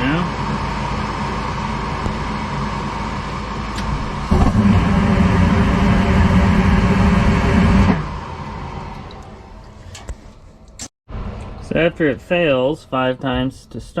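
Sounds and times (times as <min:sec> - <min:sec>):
gas burners firing: 0:00.0 - 0:11.9
furnace inducer fan running: 0:00.0 - 0:13.4.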